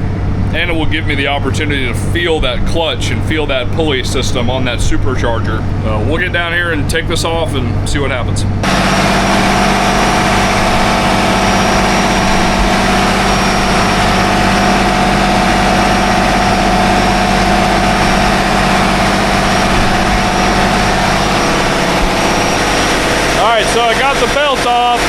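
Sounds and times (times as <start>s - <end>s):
diesel engine drone: 0.0s - 25.0s
steady whine: 0.0s - 25.0s.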